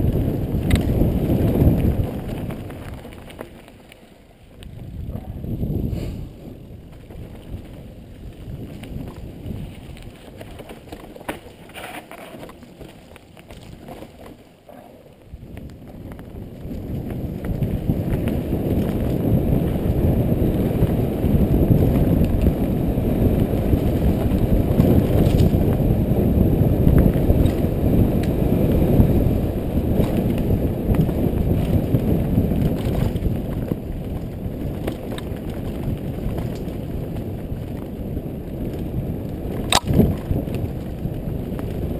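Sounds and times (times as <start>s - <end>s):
wind on microphone: 0.0s - 3.4s, 4.5s - 11.0s, 14.7s - 41.9s
bike clicks and rattles: 0.0s - 5.2s, 6.4s - 41.9s
bike tyres rumbling on dirt: 0.0s - 41.9s.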